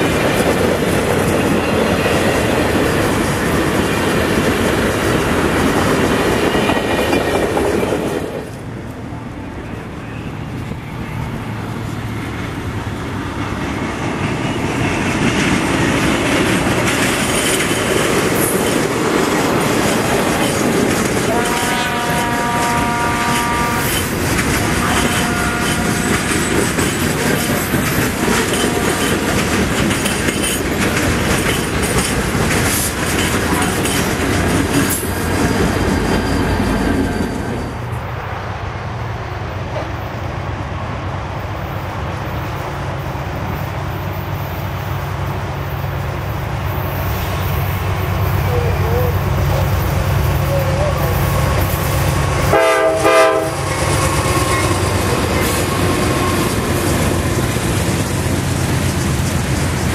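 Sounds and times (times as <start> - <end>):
freight train wheels clattering: 0.0 - 9.0, 10.5 - 38.1, 42.4 - 59.9
outdoor ambience: 0.0 - 59.9.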